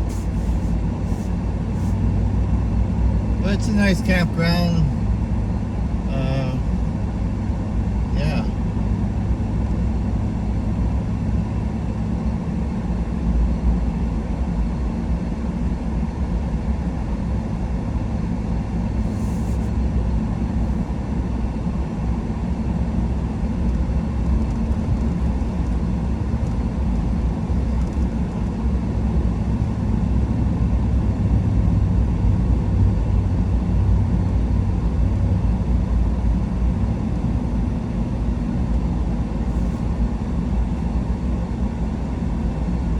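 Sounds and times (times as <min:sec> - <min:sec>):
truck engine and tyres rumbling: 0:00.0 - 0:42.9.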